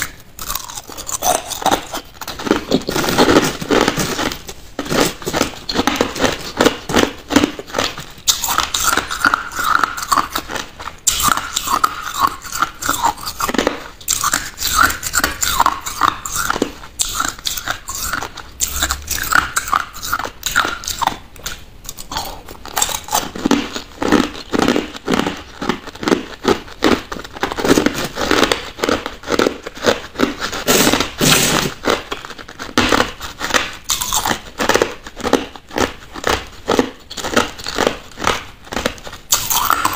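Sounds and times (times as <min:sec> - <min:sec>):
ice crunched between teeth: 0:00.0 - 0:39.9.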